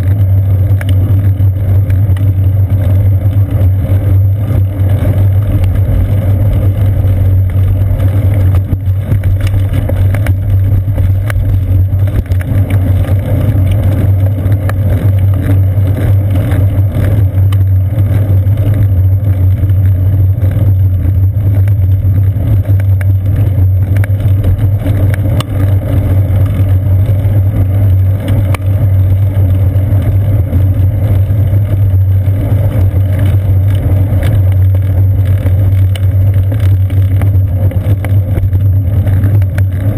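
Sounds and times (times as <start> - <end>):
bicycle road vibration: 0.0 - 39.9
wind rumble: 0.0 - 39.9.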